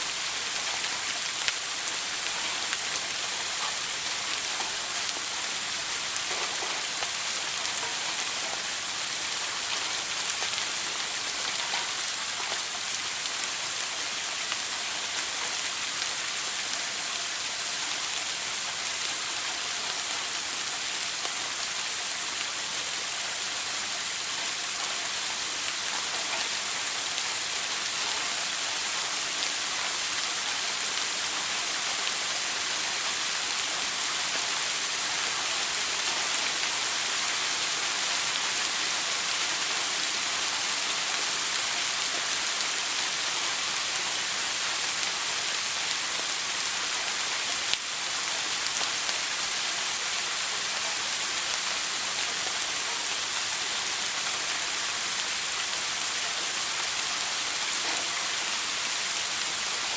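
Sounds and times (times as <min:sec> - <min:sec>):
shower spraying on hard surface: 0:00.0 - 0:59.9.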